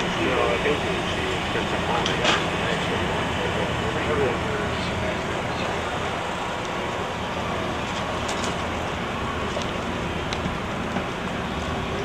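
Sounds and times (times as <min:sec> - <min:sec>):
busy hall rumble and hiss: 0:00.0 - 0:12.0.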